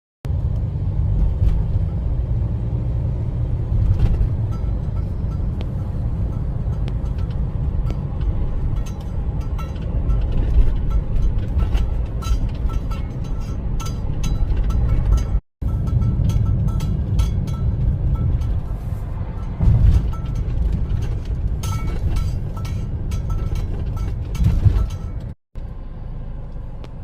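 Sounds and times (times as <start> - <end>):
car road and engine rumble: 0.2 - 27.0.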